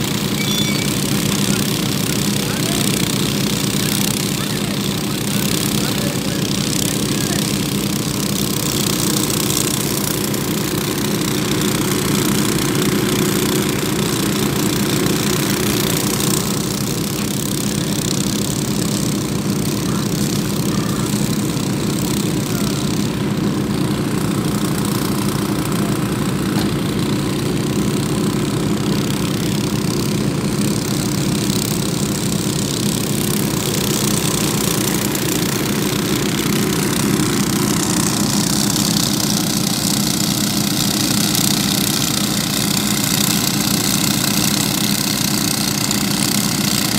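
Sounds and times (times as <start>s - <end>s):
petrol water pumps running: 0.0s - 46.9s.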